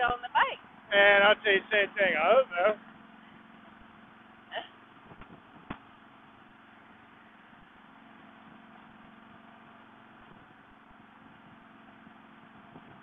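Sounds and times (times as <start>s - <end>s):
muffled motorcycle engine hum: 0.0s - 13.0s
road noise: 0.0s - 13.0s.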